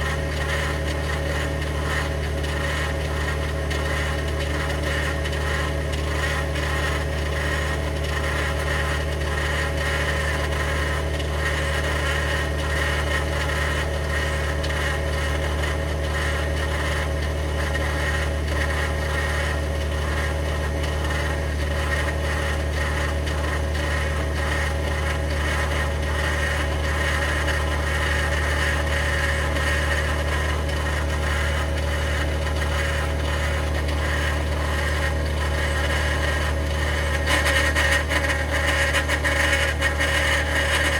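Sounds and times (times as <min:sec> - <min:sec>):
gritty grinding whine: 0:00.0 - 0:40.9.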